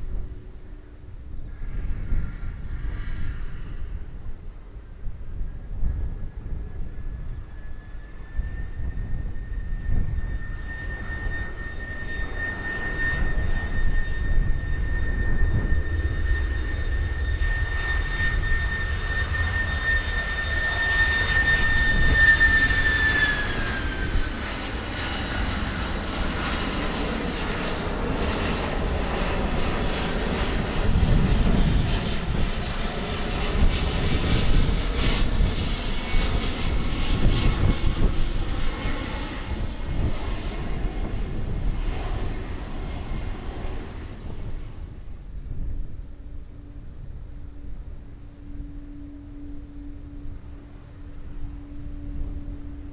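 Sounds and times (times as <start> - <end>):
jet engine whine: 0.0 - 52.9
jet rumble: 0.0 - 52.9.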